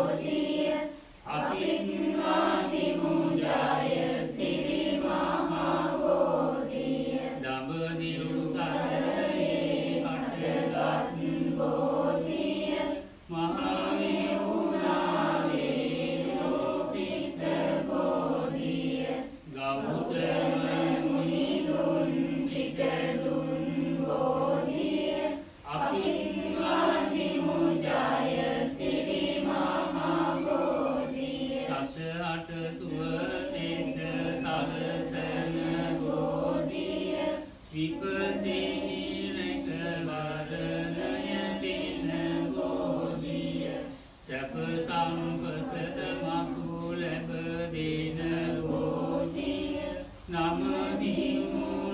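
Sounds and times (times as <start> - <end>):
group chanting in unison: 0.0 - 51.9.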